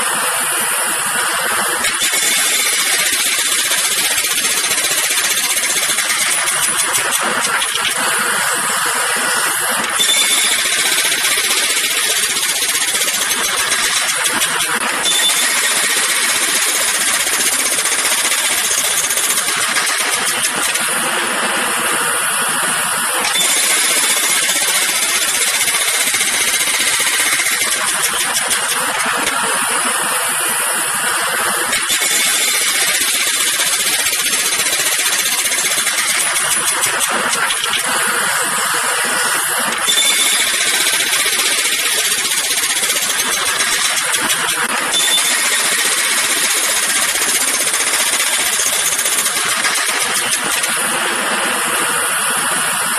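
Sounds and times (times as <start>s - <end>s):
jackhammer hammering: 0.0s - 52.9s.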